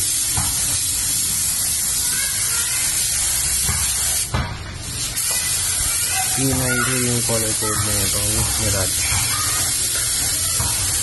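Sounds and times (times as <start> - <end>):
spray gun hissing: 0.0 - 11.0.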